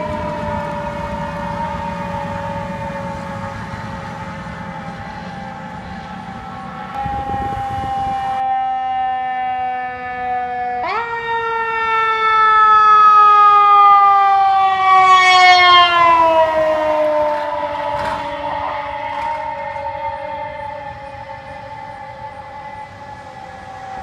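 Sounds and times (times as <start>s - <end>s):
fire truck siren: 0.0s - 24.0s.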